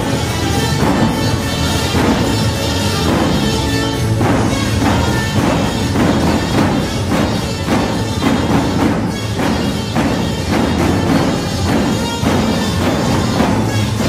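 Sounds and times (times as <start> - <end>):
bass drums beating: 0.0 - 14.0
held melody tones: 0.0 - 14.0.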